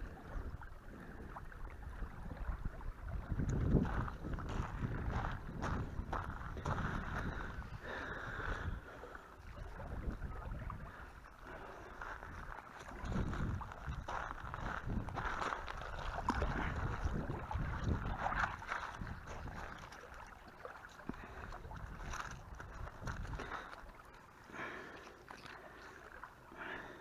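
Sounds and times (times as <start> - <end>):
wind buffeting microphone: 0.0 - 20.1, 21.1 - 23.8.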